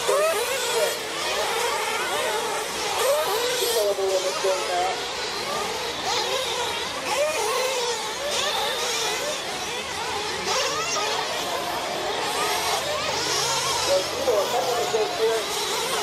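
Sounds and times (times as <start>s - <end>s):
rc truck engines buzzing and whining: 0.0s - 16.0s.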